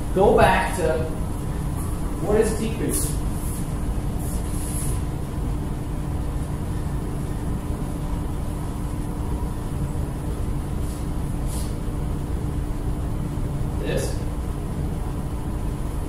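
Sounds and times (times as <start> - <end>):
constant low hum: 0.0 - 16.0
low room rumble: 0.0 - 16.0.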